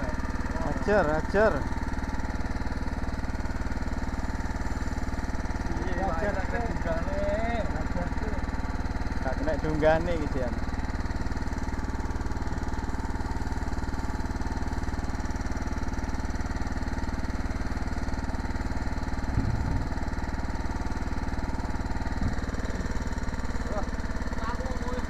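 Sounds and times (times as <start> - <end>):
small engine chugging: 0.0 - 25.0.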